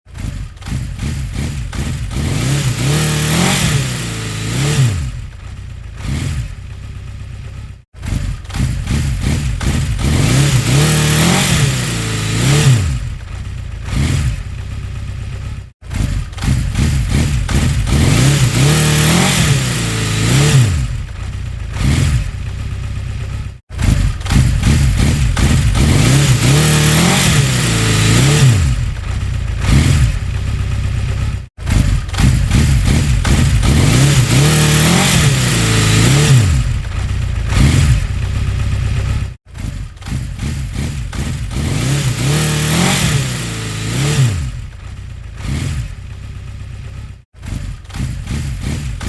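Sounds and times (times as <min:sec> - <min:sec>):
motorcycle engine idling and revving: 0:00.0 - 0:49.0.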